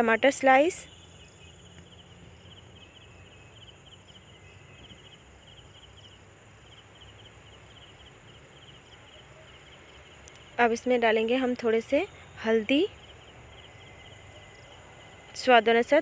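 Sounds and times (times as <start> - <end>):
cricket chirping: 0.0 - 16.0
low steady hum: 0.0 - 16.0.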